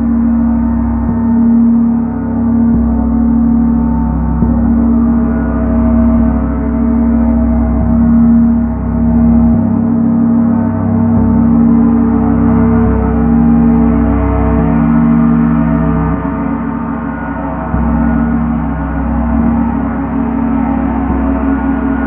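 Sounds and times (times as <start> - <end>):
steady low hum: 0.0 - 22.0
sustained gong tones: 0.0 - 22.0.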